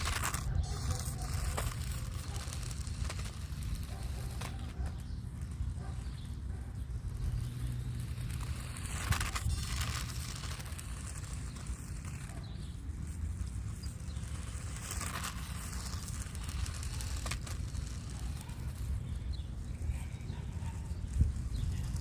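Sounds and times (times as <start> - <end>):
rc truck driving: 0.0 - 22.0
wind rumble on microphone: 0.0 - 22.0.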